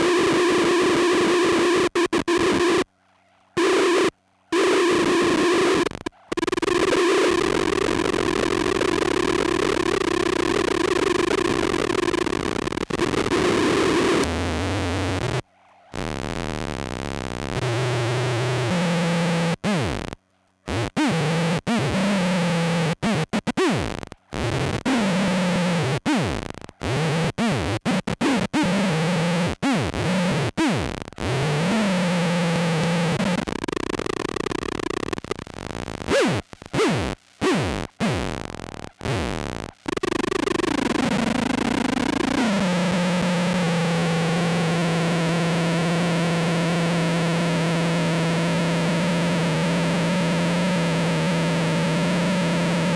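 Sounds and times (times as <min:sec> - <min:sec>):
buzzing synth fuzz drone: 0:03.5 - 0:52.9.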